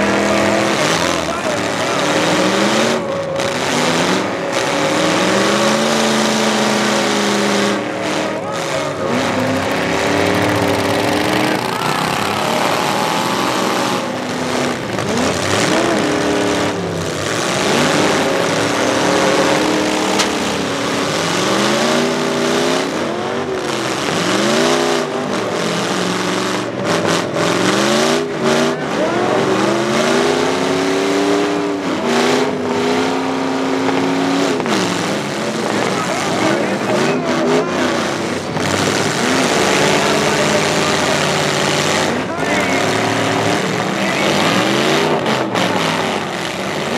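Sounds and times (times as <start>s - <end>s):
truck engines revving hard: 0.0s - 46.9s.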